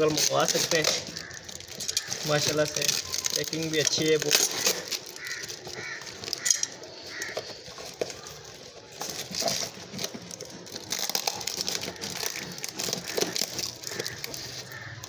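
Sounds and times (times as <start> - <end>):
plastic wrap and tape crinkling: 0.0 - 15.0.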